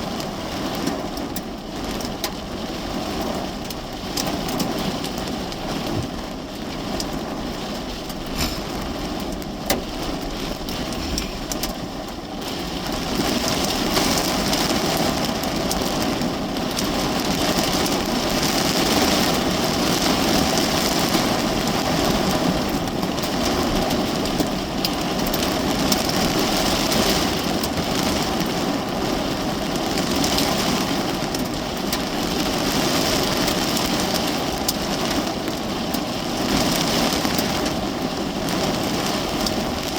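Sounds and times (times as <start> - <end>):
heavy rain on a car roof: 0.0 - 39.9.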